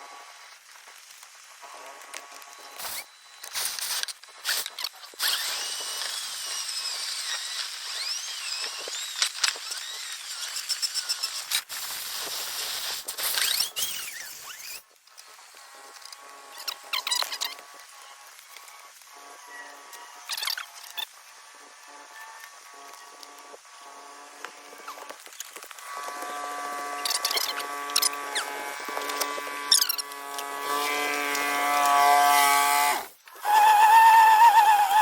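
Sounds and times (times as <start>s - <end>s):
drill spinning brush in duct: 1.7s - 35.0s.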